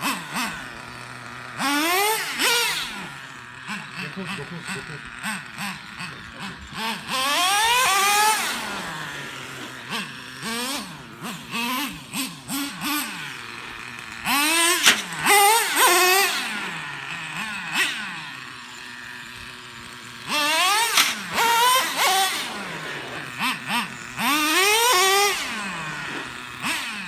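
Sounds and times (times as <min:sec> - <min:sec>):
small nitro engine revving: 0:00.0 - 0:27.0.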